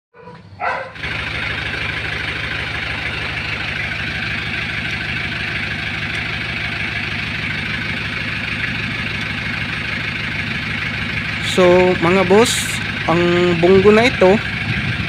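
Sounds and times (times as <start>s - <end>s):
diesel engine idling: 0.6s - 15.0s.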